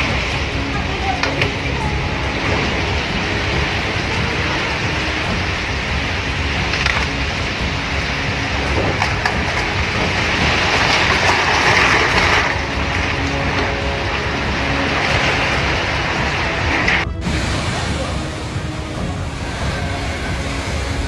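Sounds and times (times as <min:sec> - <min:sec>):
heavy rain: 0:00.0 - 0:21.0
wind buffeting microphone: 0:00.0 - 0:21.0.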